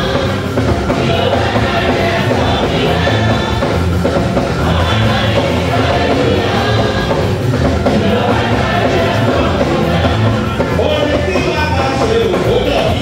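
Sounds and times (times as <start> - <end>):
choir singing gospel with band: 0.0 - 13.0.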